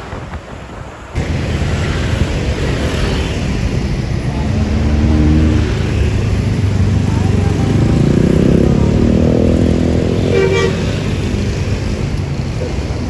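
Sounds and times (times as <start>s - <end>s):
bus diesel engine rumble: 0.0s - 13.0s.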